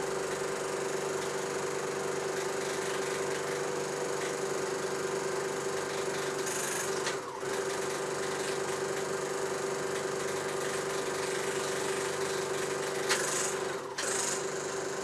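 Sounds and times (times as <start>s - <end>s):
film projector running: 0.0s - 15.0s.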